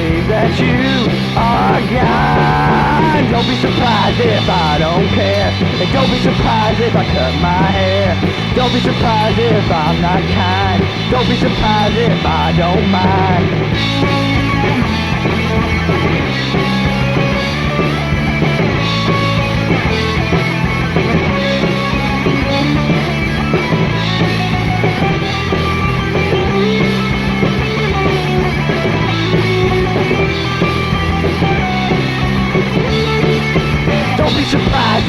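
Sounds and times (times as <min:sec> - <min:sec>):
bass guitar: 0:00.0 - 0:35.0
distorted electric guitar: 0:00.0 - 0:35.0
drum kit: 0:00.0 - 0:35.0.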